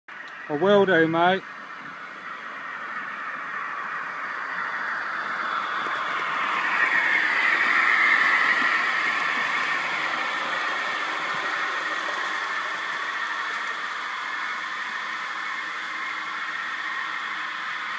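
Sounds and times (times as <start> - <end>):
model locomotive motor whir: 0.2 - 17.9.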